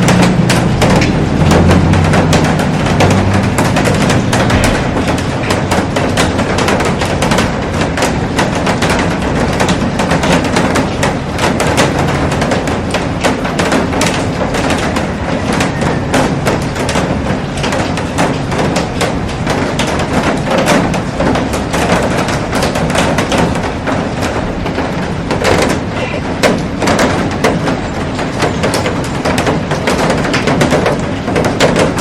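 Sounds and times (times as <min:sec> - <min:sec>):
raindrops hitting glass: 0:00.0 - 0:32.0.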